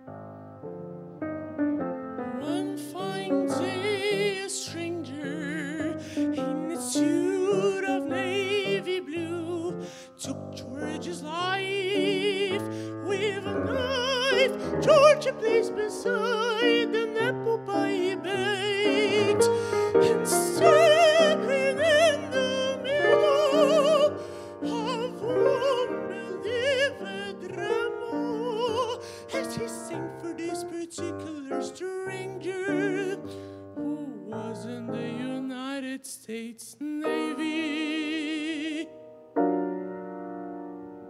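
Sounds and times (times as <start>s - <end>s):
grand piano: 0.0s - 41.0s
operatic singing: 2.4s - 39.0s.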